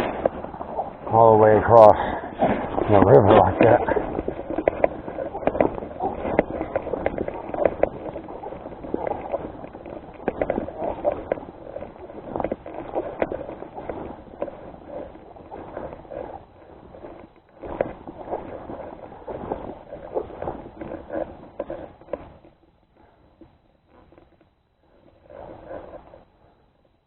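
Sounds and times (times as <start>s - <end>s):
footsteps on rough ground: 0.0s - 27.0s.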